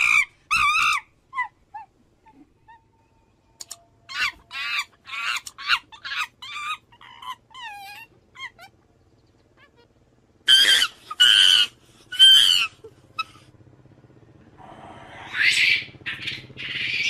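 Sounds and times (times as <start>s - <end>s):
monkeys screaming: 0.0s - 2.8s, 3.6s - 8.8s, 9.6s - 13.5s, 14.6s - 17.0s.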